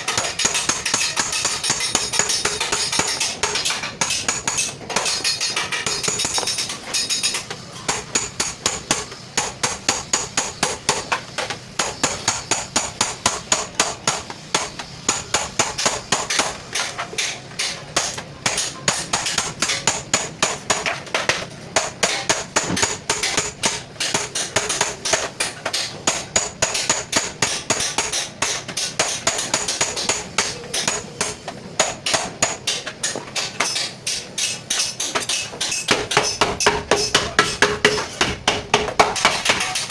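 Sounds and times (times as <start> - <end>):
small hammer tapping: 0.0 - 39.9.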